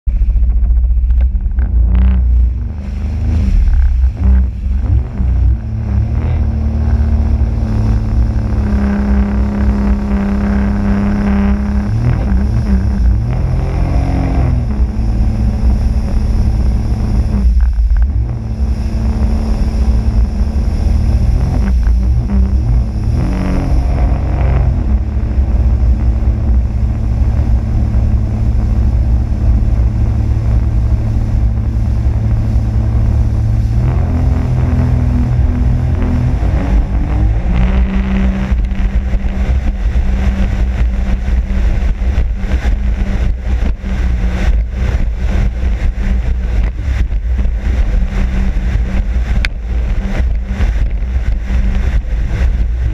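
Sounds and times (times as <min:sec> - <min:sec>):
jet ski engine running: 0:00.0 - 0:52.9.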